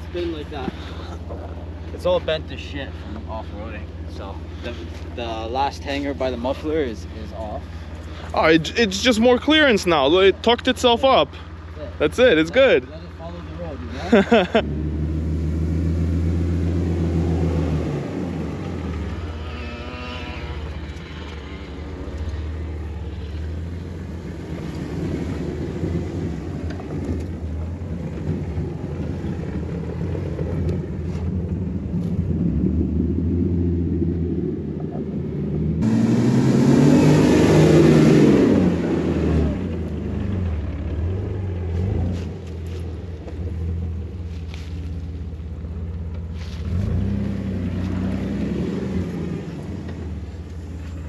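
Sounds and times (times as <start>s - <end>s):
vehicle engine droning and revving: 0.0s - 51.0s.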